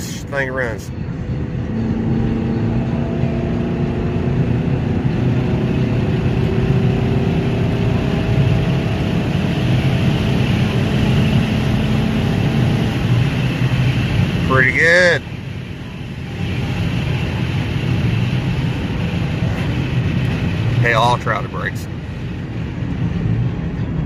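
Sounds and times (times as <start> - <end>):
car engine: 0.0 - 24.0
road noise: 0.0 - 24.0.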